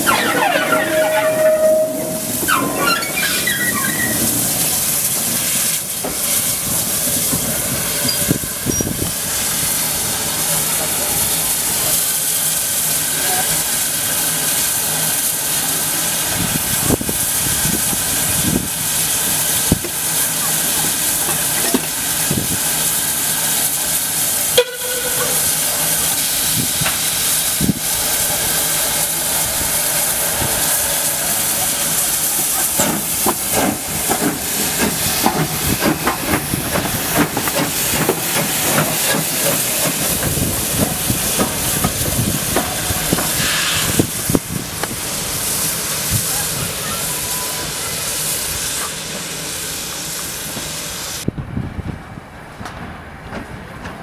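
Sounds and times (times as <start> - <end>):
locomotive steam hissing: 0.0 - 51.3.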